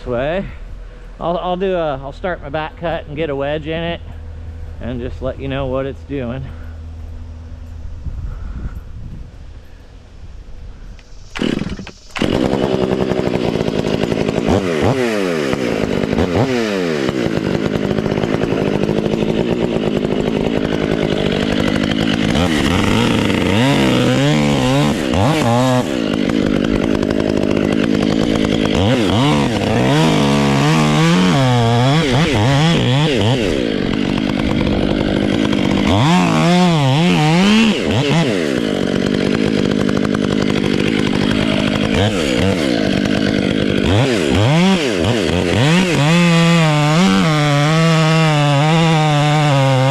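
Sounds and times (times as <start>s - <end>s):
chainsaw cutting tree trunk: 0.9s - 8.5s, 10.7s - 49.9s.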